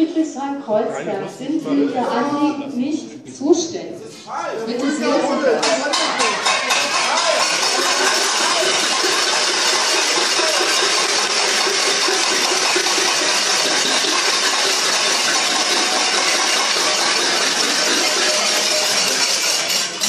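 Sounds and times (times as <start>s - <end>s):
protesting crowd din: 0.0s - 20.0s.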